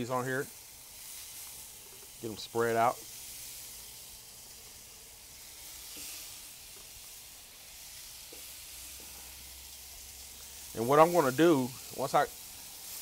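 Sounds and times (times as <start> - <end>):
meat sizzling on grill: 0.0 - 13.0.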